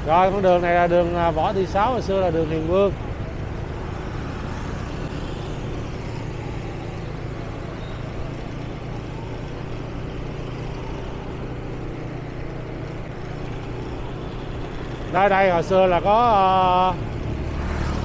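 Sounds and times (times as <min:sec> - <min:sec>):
road traffic engine hum: 0:00.0 - 0:18.0.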